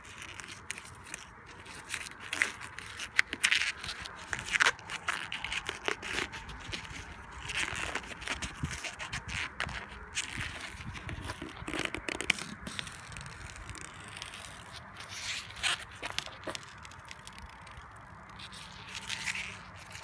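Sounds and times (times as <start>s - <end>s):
rubber coating peeling: 0.0s - 20.0s.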